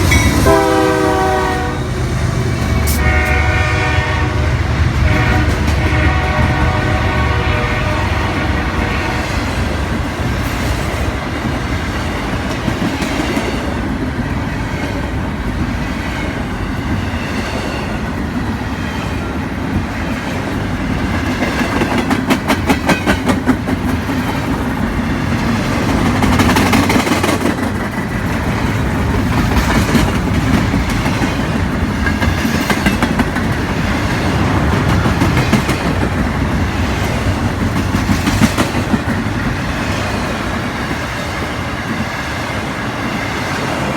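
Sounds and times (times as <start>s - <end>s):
freight train wheels rumbling on rails: 0.0s - 43.9s.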